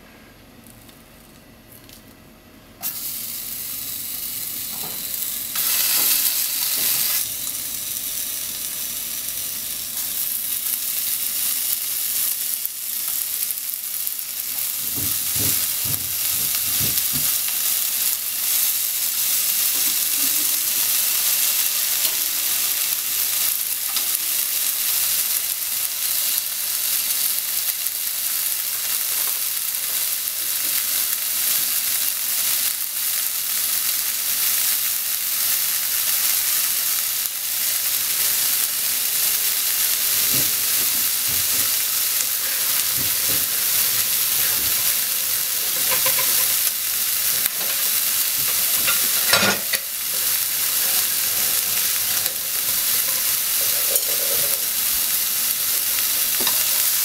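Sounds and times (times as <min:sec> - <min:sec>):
ham sizzling in a frying pan: 0:02.8 - 0:57.0.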